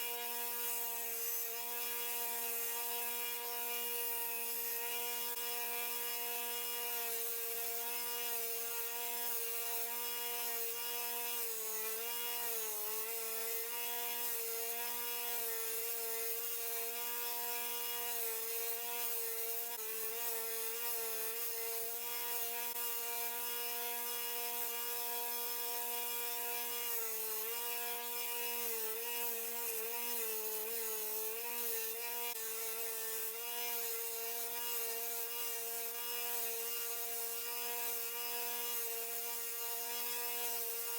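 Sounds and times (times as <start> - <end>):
belt sander grinding wood: 0.0 - 40.9.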